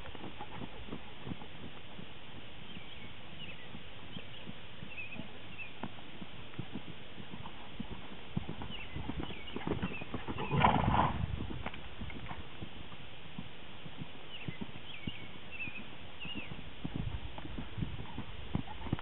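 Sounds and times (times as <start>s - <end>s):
muffled hoofbeats on sand: 0.0s - 19.0s.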